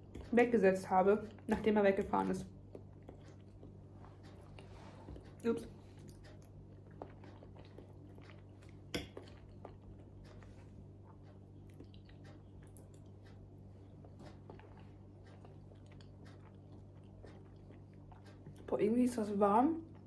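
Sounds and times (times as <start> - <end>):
soft chewing: 0.0 - 20.0
steady low hum: 0.0 - 20.0.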